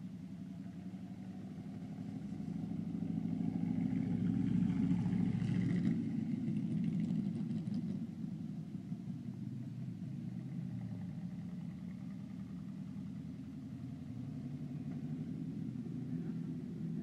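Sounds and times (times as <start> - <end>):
race car engine driving past: 0.0 - 8.2, 9.6 - 17.0.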